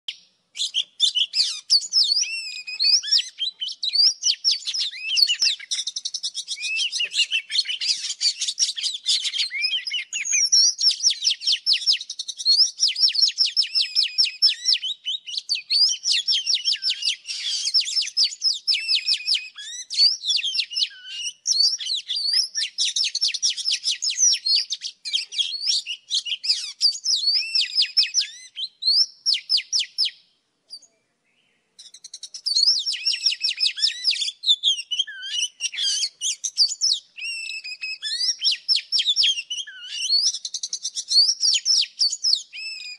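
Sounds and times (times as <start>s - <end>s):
bird singing whistles and trills: 0.0s - 42.9s.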